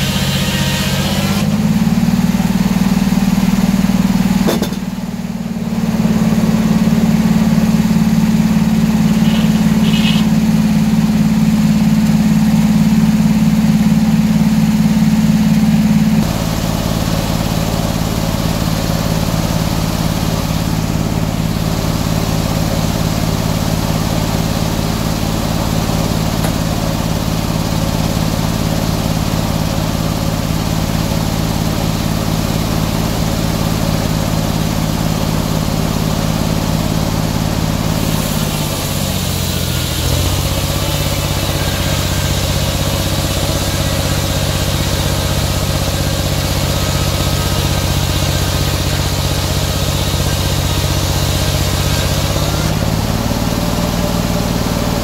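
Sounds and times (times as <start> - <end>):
circular sawmill cutting wood: 0.0 - 55.0.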